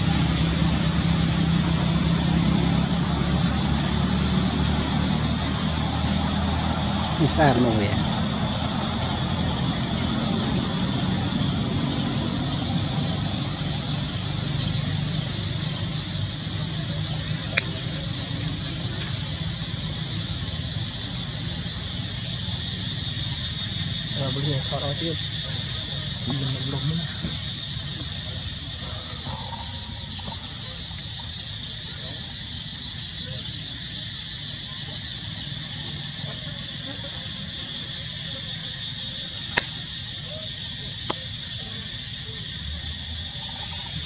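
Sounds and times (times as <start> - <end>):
high-pitched whine: 0.0 - 44.0
insects droning: 0.0 - 44.0
low engine rumble: 0.0 - 44.0.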